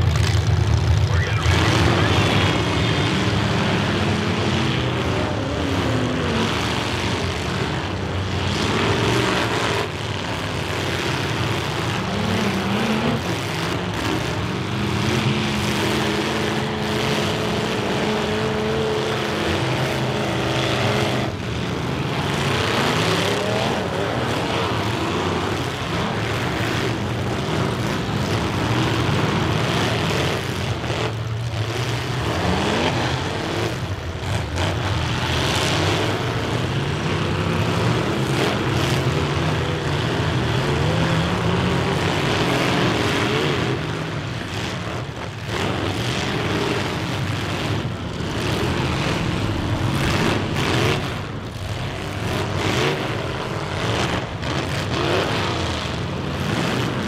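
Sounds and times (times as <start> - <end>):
car engines revving loudly: 0.0 - 57.0.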